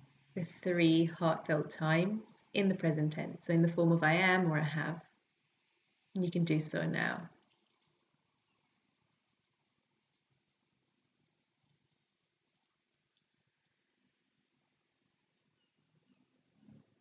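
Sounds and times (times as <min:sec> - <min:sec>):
faint high-pitched bird chirping: 0:01.8 - 0:17.0.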